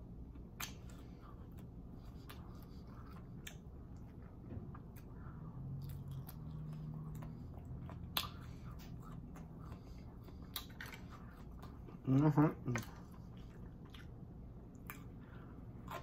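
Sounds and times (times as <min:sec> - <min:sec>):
low steady hum: 0:00.0 - 0:16.0
person chewing food: 0:00.0 - 0:16.0.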